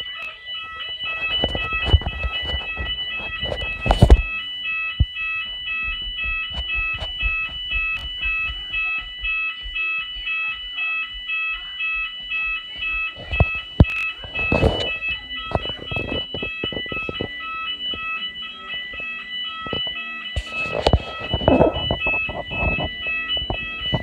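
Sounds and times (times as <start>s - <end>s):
fire alarm pulsing tone: 0.0s - 24.0s.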